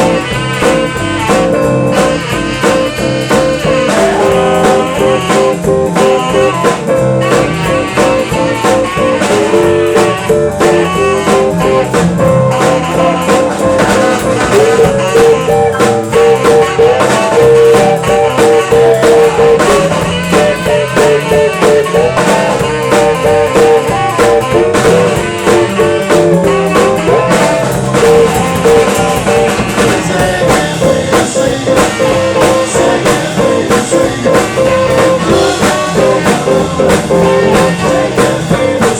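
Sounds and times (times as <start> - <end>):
drum kit: 0.0 - 38.9
electric guitar: 0.0 - 38.9
live blues band: 0.0 - 38.9.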